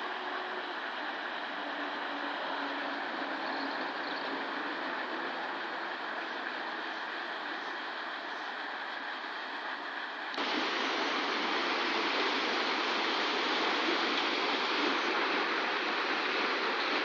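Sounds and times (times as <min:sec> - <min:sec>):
water rushing at a waterwheel: 0:00.0 - 0:17.0.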